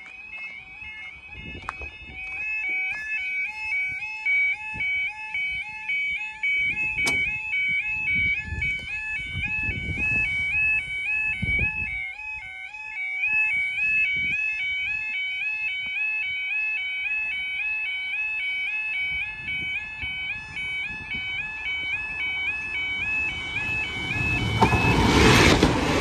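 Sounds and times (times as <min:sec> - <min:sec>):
level crossing alarm warbling: 0:00.0 - 0:26.0.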